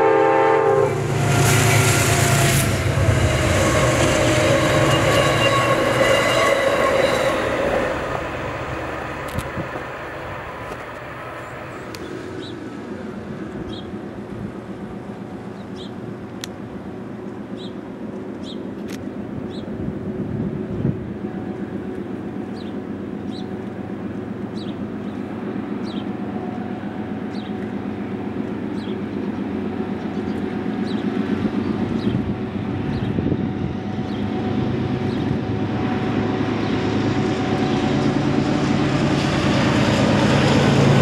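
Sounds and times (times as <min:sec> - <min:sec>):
train engine drone: 0:00.0 - 0:41.0.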